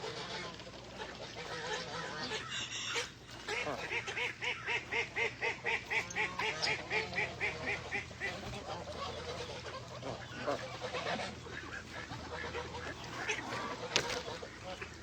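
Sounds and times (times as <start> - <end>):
ducks and geese calling: 0.0 - 15.0.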